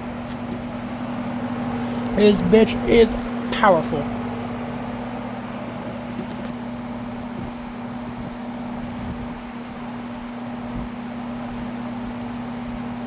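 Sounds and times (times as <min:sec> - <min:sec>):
fan air rushing: 0:00.0 - 0:13.0
fan motor hum: 0:00.0 - 0:13.0.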